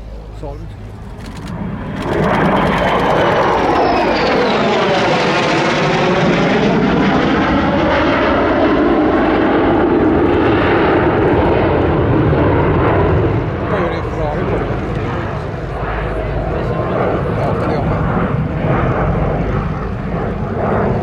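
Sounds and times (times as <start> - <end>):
jet roaring past: 0.0 - 21.0.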